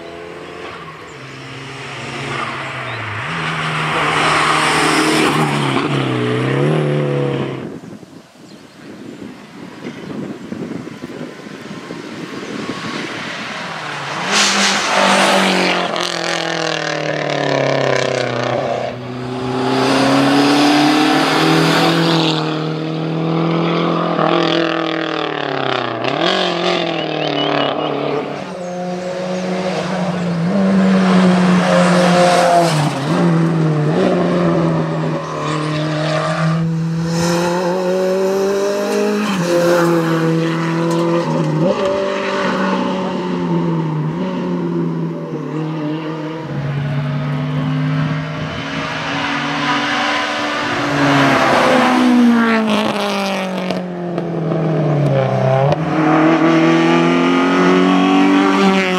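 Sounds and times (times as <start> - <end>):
rally car engines revving: 0.0 - 7.9, 10.5 - 58.9.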